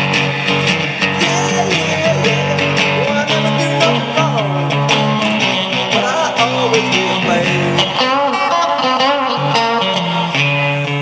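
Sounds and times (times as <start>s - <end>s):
electric guitar strumming chords: 0.0s - 11.0s.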